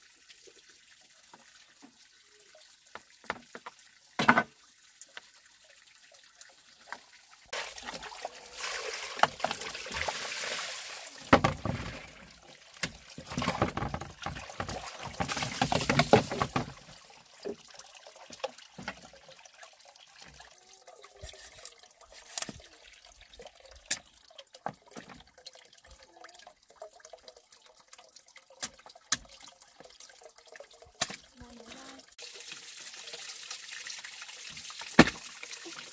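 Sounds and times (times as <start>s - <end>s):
water pouring and splashing: 0.0s - 35.9s.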